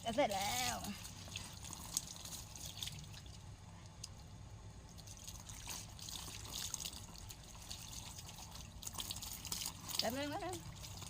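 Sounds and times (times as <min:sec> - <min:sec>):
small water splashes: 0:00.0 - 0:04.2, 0:04.8 - 0:11.0
water trickling and dripping: 0:00.0 - 0:11.0.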